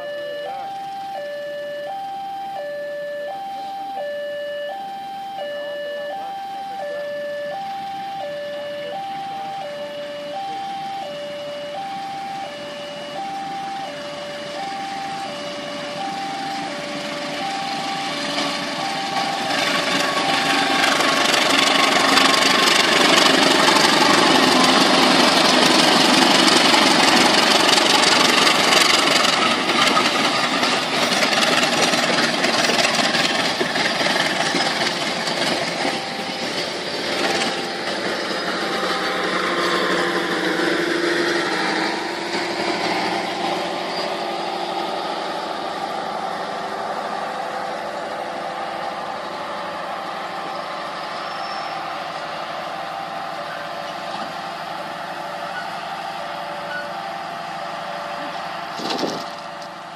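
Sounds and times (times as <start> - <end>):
diesel locomotive passing: 0.0 - 59.9
two-tone crossing alarm: 0.0 - 59.9
coaches rolling on rails: 6.7 - 59.9.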